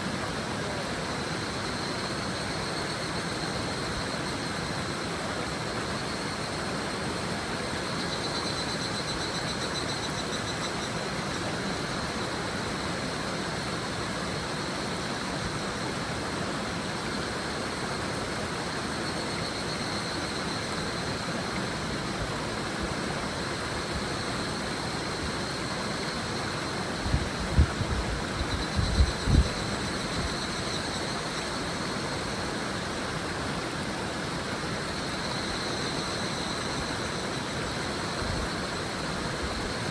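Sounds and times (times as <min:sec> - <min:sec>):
river babbling: 0:00.0 - 0:39.9
cicadas calling: 0:00.6 - 0:39.9.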